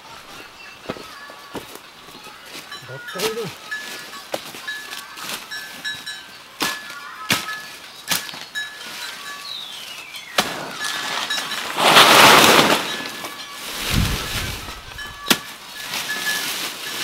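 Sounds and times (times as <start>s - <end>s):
leaves rustling: 0.0s - 17.0s
dry leaves crackling and snapping: 0.3s - 17.0s.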